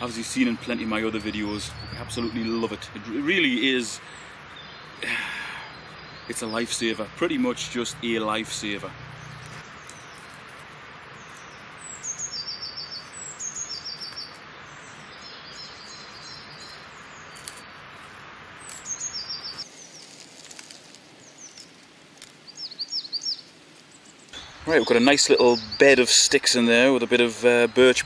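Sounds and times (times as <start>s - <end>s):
songbirds trilling: 0.0s - 28.0s
steady background hiss: 0.0s - 28.0s.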